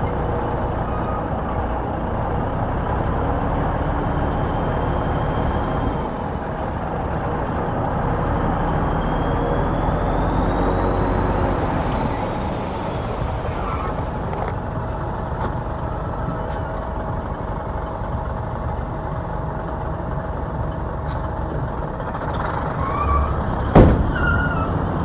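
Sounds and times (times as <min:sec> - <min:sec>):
bulldozer diesel engine running hard: 0:00.0 - 0:25.0.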